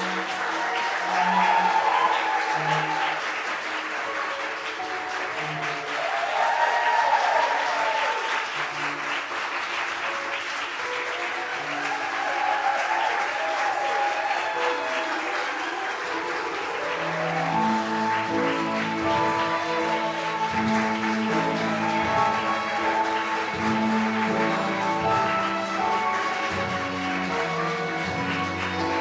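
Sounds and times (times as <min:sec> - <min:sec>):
audience applauding: 0:00.0 - 0:29.0
music: 0:00.0 - 0:29.0.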